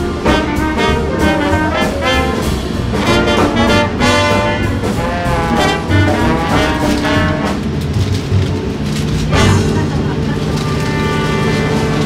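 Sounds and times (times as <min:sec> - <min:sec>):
brass-led music with beat: 0:00.0 - 0:08.0, 0:09.3 - 0:12.0.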